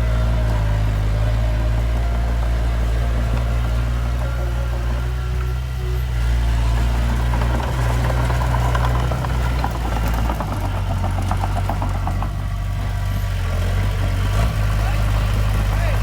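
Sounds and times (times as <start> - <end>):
diesel engine running: 0.0 - 16.0
metallic clanking rattle: 0.0 - 16.0.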